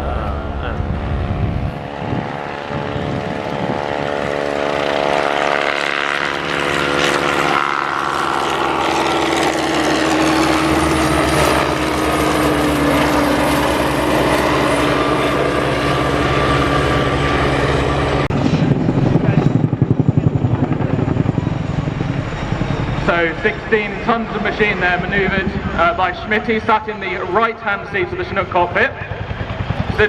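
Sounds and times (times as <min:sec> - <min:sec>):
helicopter engine whine: 0:00.0 - 0:30.0
helicopter rotor beat: 0:00.0 - 0:30.0.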